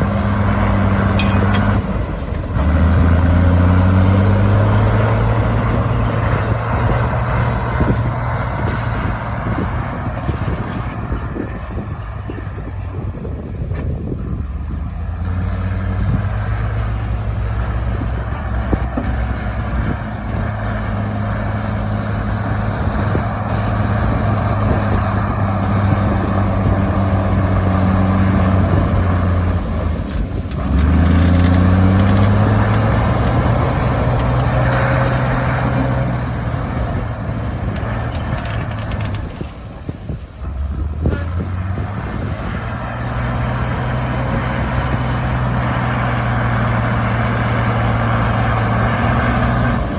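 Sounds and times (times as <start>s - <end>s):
heavy diesel engine revving: 0.0s - 49.9s.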